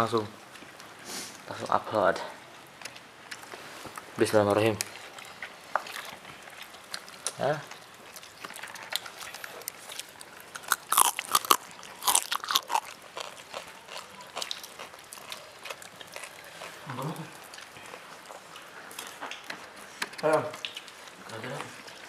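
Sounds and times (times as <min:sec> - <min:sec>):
people eating crunching: 0:00.0 - 0:22.0.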